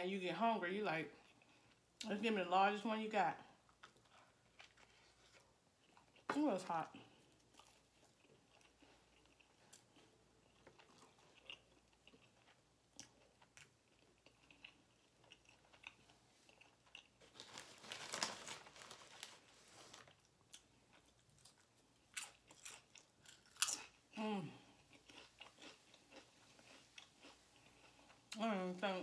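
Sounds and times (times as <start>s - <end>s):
close-up chewing: 3.5s - 6.3s, 7.0s - 18.2s, 19.2s - 28.4s.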